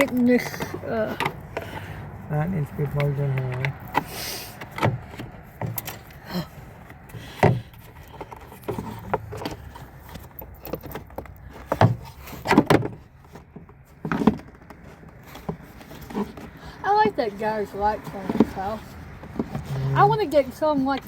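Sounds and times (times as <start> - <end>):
clicks and knocks of car parts: 0.0 - 21.0.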